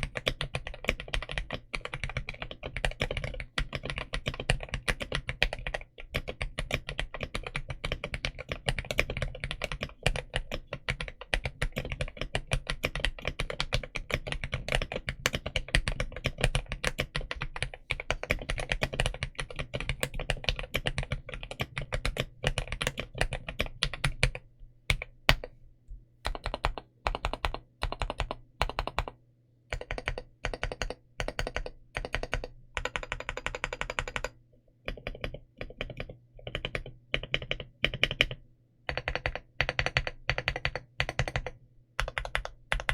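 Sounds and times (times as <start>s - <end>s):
mechanical keyboard typing: 0.0s - 25.5s, 26.3s - 42.9s.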